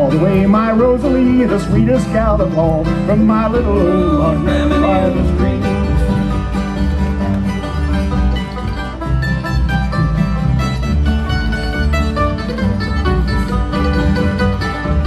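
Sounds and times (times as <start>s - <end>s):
acoustic guitar: 0.0s - 15.0s
picked banjo: 0.0s - 15.0s
upright bass line: 0.0s - 15.0s.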